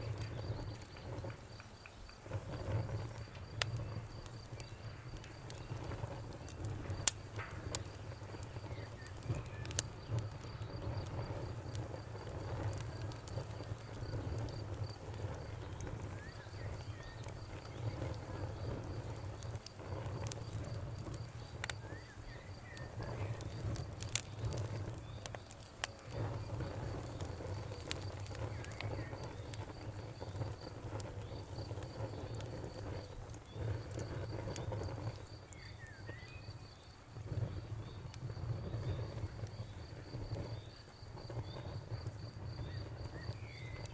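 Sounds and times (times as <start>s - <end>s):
campfire crackling and popping: 0.0s - 43.9s
cricket chirping: 0.0s - 43.9s.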